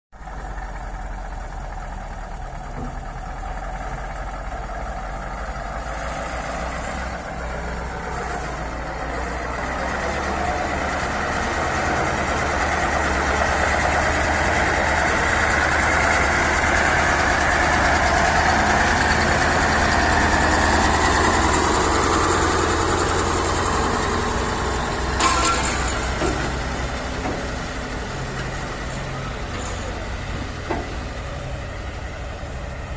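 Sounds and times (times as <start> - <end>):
engine idling low rumble: 0.1 - 32.9.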